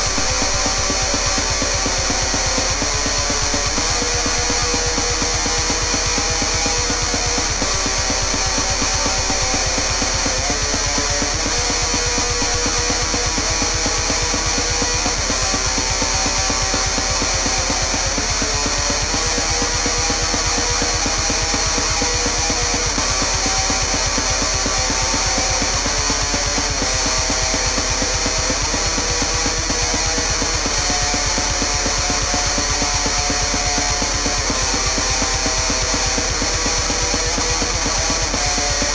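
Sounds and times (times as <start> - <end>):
fast drum beat: 0.0 - 38.9
heavy metal guitar riff: 0.0 - 38.9.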